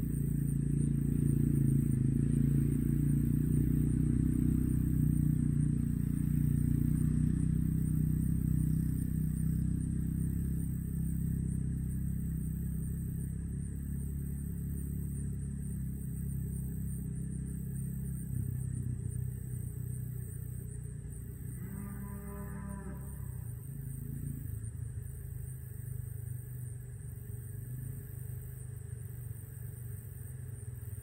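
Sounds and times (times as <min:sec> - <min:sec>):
low engine hum: 0:00.0 - 0:31.0.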